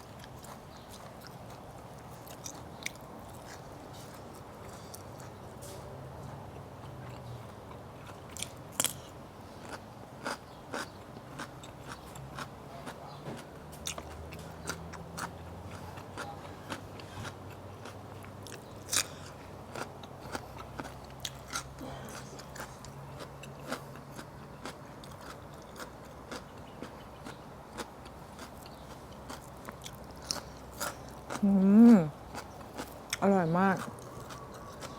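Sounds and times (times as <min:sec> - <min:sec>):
person chewing crunchy food: 0:00.0 - 0:05.7, 0:06.5 - 0:34.9.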